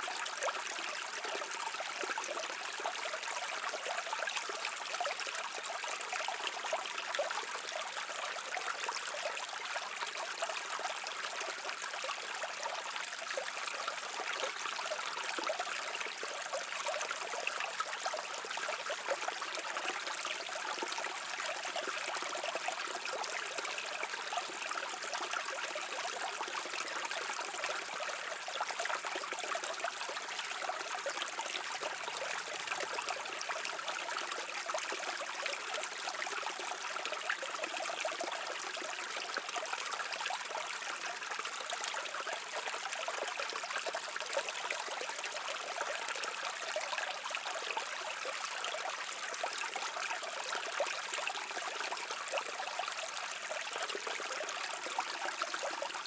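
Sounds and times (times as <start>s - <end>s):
brook water babbling: 0.0s - 56.0s.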